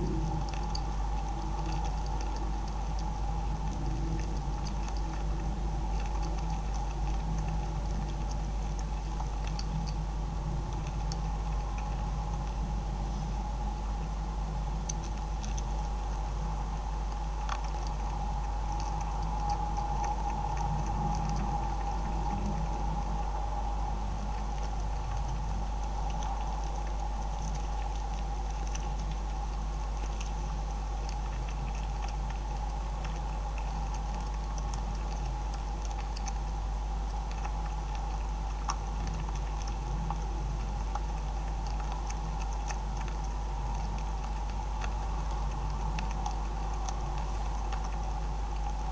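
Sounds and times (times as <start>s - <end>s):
beavers chewing and crunching: 0.0s - 48.9s
steady hum: 0.0s - 48.9s.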